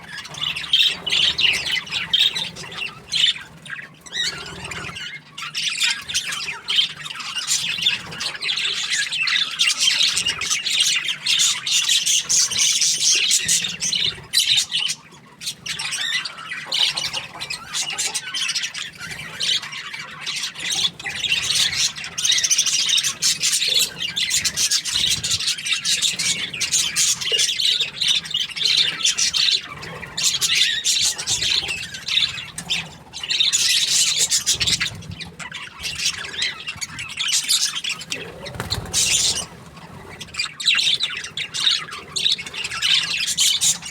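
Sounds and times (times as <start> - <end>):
budgerigars chirping and chattering: 0.0 - 43.9.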